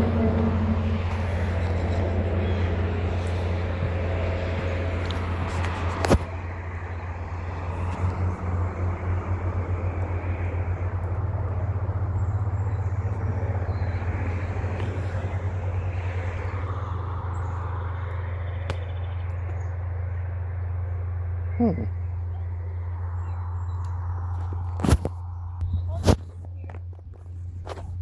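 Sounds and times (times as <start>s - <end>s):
low rumble: 0.0s - 28.0s.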